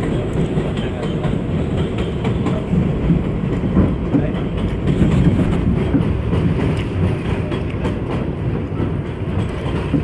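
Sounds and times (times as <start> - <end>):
subway train wheels rumbling: 0.0 - 10.0
wheels clickety-clack: 0.0 - 10.0.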